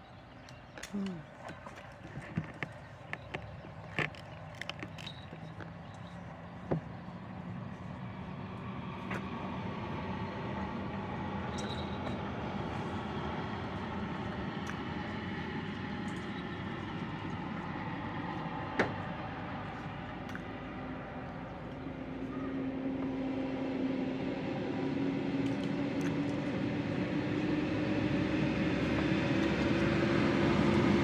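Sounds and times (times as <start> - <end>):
road noise: 0.0 - 31.0
vehicle engine hum approaching: 0.0 - 31.0.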